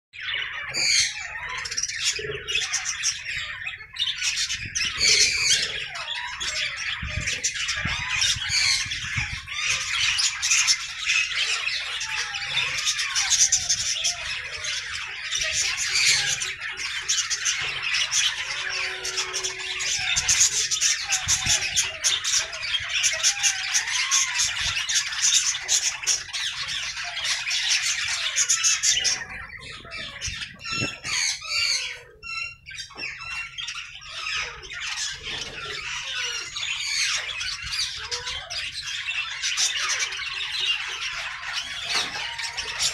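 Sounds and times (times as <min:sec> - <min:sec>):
budgerigars chattering and squawking: 0:00.2 - 0:42.9.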